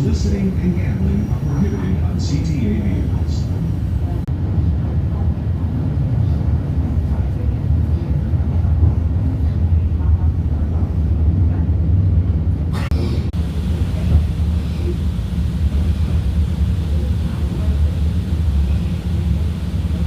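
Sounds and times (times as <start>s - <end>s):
train rumbling inside carriage: 0.0s - 20.0s.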